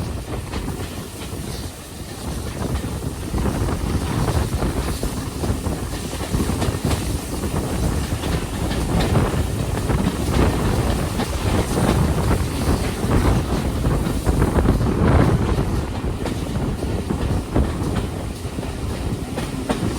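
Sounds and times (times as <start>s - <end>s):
train rumbling on track: 0.0s - 19.9s
wind buffeting microphone: 0.0s - 19.9s.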